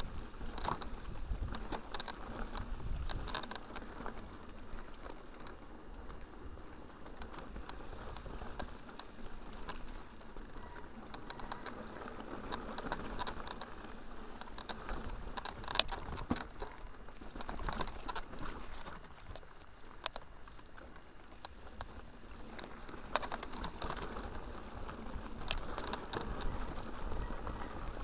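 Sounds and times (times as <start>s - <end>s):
bike rattling: 0.0s - 28.0s
tyres rolling over gravel: 0.0s - 28.0s.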